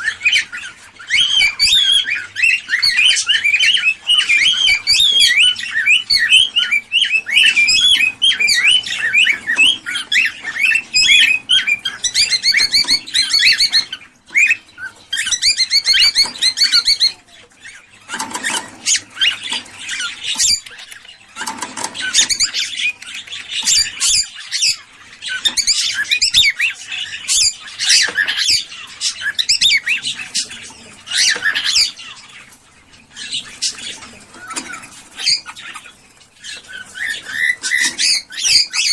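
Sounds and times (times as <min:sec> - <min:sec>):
cockatiels chirping: 0:00.0 - 0:38.9
cockatiels squawking: 0:00.0 - 0:38.9.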